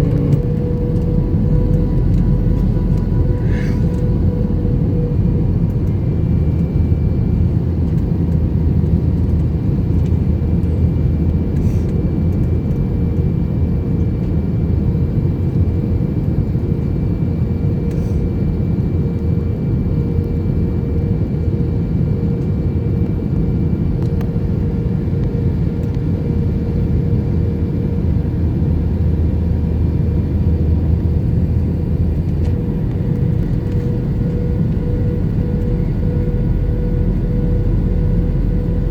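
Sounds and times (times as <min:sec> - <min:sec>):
airliner cabin engine rush: 0:00.0 - 0:38.9.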